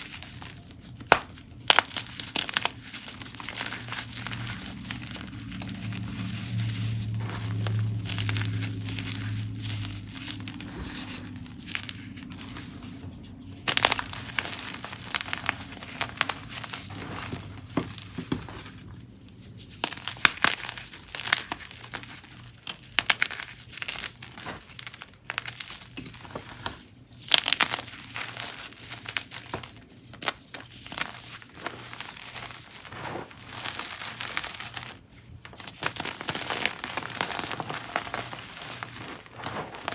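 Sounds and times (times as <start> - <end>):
chalk crushing and crunching: 0.0 - 39.9.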